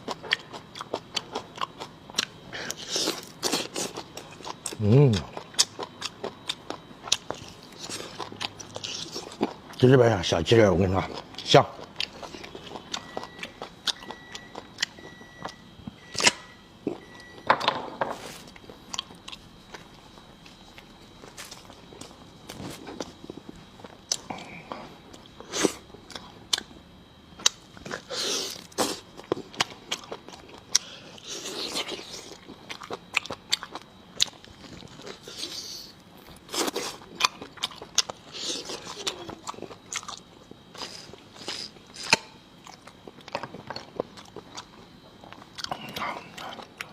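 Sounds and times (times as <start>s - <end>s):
person chewing and biting: 0.0s - 9.8s, 11.0s - 17.4s, 18.3s - 46.9s.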